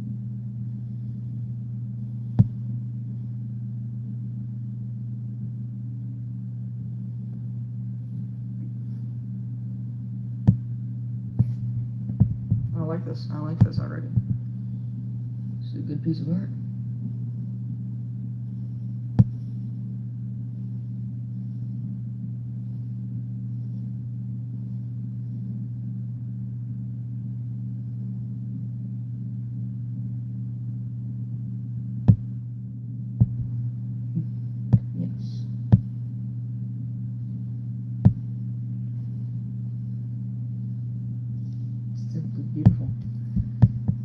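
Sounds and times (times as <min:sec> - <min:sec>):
low electrical mains hum: 0:00.0 - 0:44.0.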